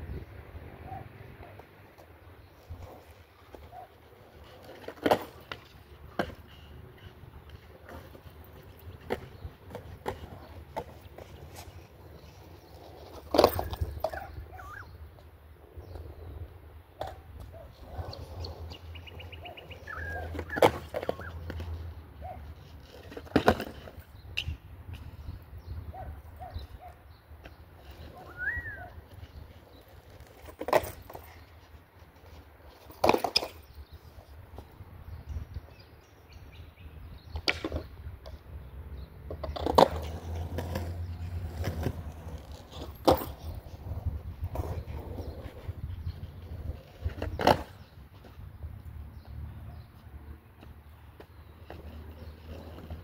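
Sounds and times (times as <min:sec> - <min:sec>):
birds chirping: 0:00.0 - 0:53.0
skateboard wheels rolling on concrete: 0:00.0 - 0:53.0.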